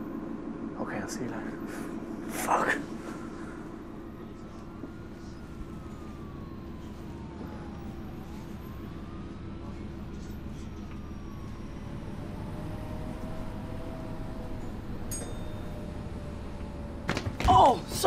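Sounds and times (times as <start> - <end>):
bus rumbling: 0.0 - 18.0
faint siren wailing: 0.0 - 18.0.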